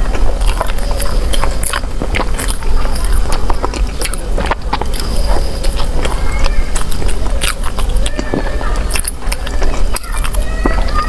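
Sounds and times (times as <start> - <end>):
wet mouth clicks: 0.0 - 10.5
chewing bread: 0.0 - 11.0
steady low hum: 0.0 - 11.0.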